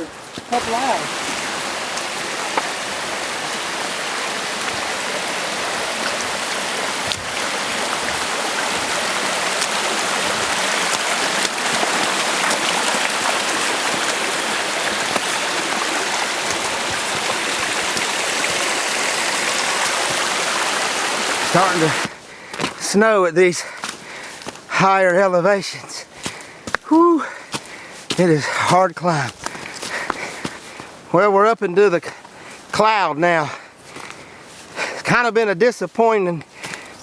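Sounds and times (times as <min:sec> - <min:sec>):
mountain stream rushing: 0:00.0 - 0:35.2.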